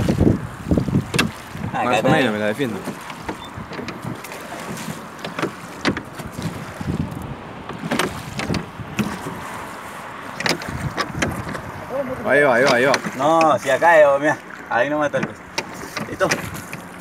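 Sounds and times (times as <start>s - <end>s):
wind rush on microphone: 0.0s - 13.1s, 15.7s - 17.0s
oars knocking against rowlocks: 0.0s - 17.0s
oars working through water: 0.0s - 17.0s.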